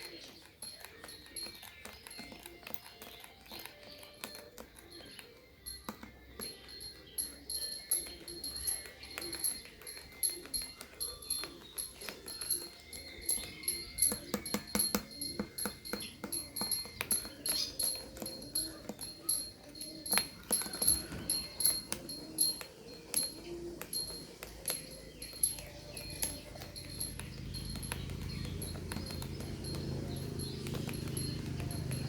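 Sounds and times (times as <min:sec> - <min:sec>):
spoon clinking against glass: 0:00.0 - 0:32.0.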